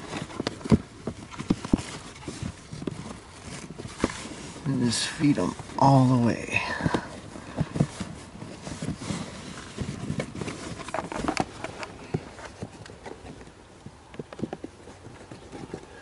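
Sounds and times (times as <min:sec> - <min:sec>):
rustling and scraping of trim: 0:00.0 - 0:16.0.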